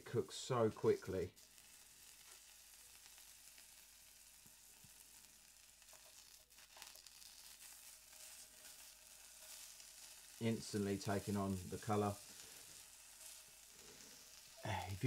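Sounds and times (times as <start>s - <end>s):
meat sizzling on griddle: 0.0s - 15.0s.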